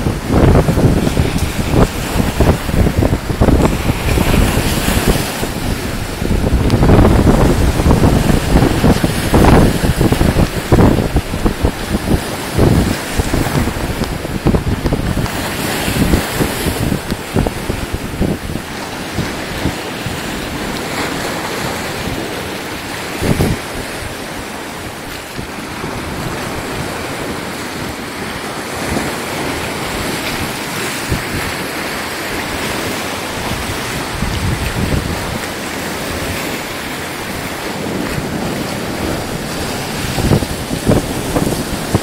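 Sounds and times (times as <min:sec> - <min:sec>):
wind rushing on microphone: 0:00.0 - 0:42.0.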